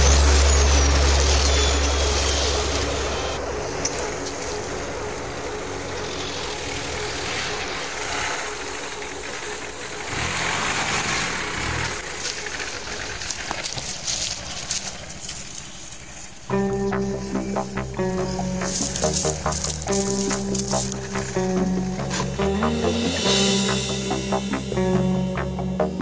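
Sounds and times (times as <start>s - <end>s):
off-road vehicle engine running: 0.0s - 15.5s, 16.5s - 26.0s.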